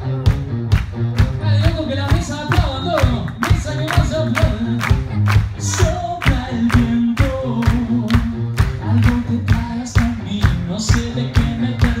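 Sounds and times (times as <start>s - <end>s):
bass guitar: 0.0s - 12.0s
drum kit beat: 0.0s - 12.0s
electric guitar: 0.0s - 12.0s
man singing: 1.3s - 5.0s, 5.6s - 12.0s.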